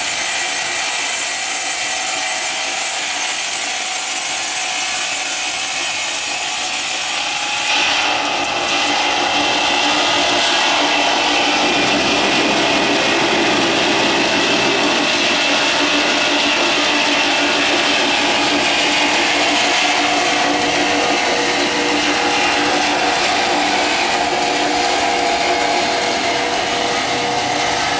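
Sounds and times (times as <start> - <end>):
power saw cutting wood: 0.0 - 27.9.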